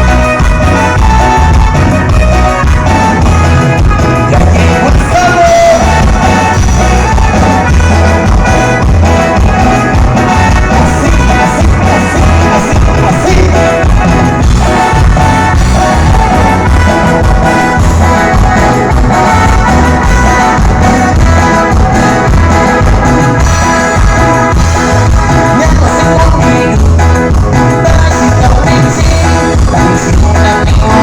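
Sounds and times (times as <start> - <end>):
live band playing dance music: 0.0 - 31.0.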